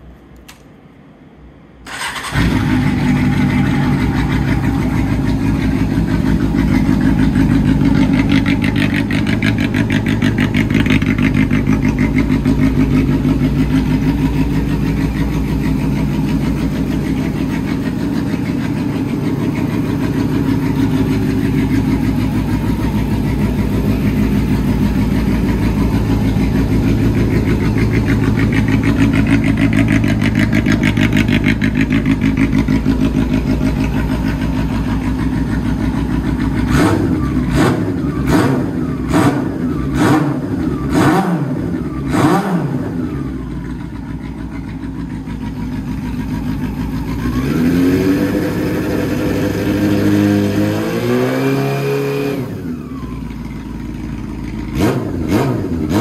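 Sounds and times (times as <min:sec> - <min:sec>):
motorcycle engine idling: 0:01.9 - 0:50.8, 0:52.5 - 0:56.0.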